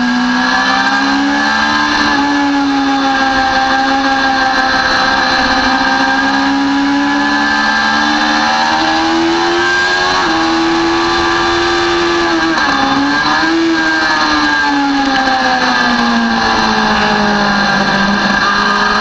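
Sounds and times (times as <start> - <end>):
motorcycle engine revving: 0.0 - 19.0
wind noise: 1.3 - 7.8, 8.4 - 19.0.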